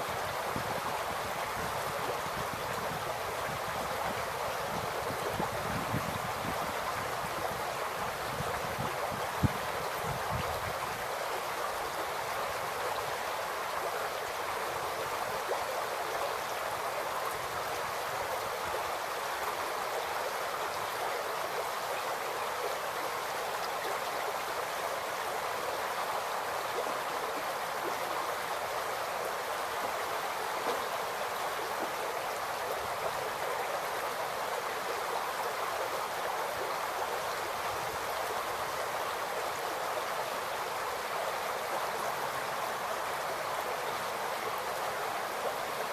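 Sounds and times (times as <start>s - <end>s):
creek babbling over stones: 0.0s - 45.9s.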